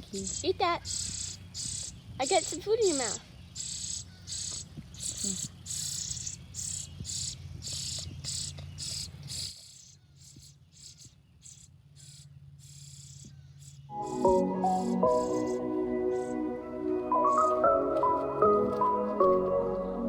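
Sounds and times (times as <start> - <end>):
cricket chirping: 0.0 - 16.5, 17.2 - 18.8.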